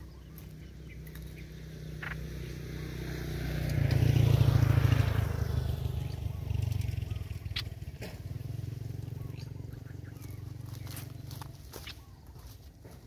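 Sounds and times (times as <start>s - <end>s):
engine passing by: 0.0s - 13.0s.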